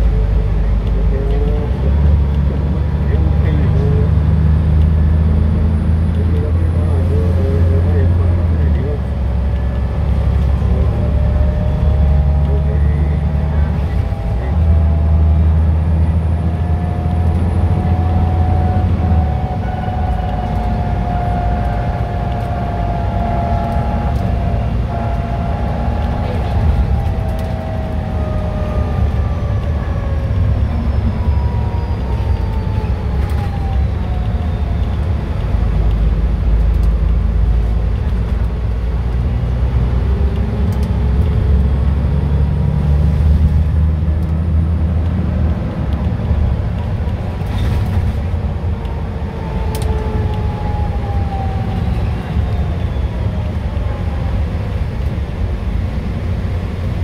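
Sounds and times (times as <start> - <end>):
bus engine rumbling: 0.0 - 57.0
drivetrain whine: 0.0 - 57.0.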